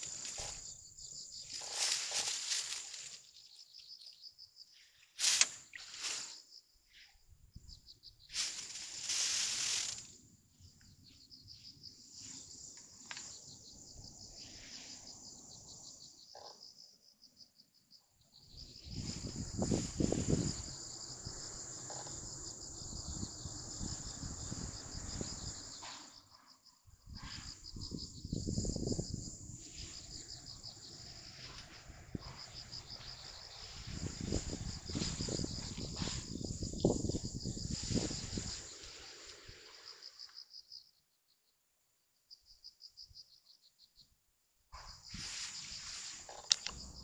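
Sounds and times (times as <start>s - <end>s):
crickets chirping: 0.0s - 47.0s.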